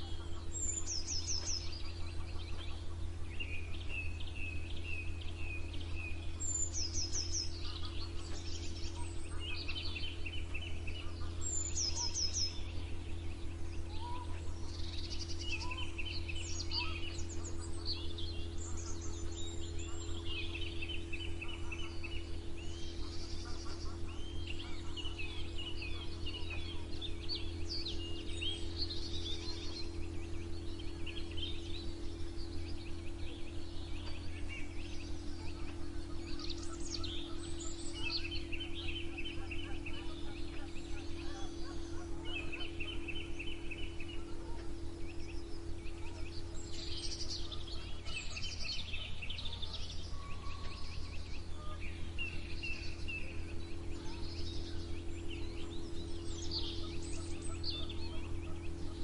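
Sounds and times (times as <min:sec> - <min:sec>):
songbirds singing and chirping: 0:00.0 - 0:59.0
steady low hum: 0:00.0 - 0:59.0.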